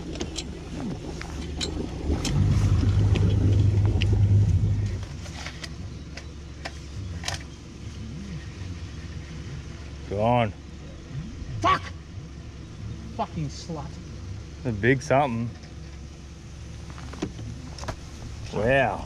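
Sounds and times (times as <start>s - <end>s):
boat engine revving and idling: 0.0s - 19.0s.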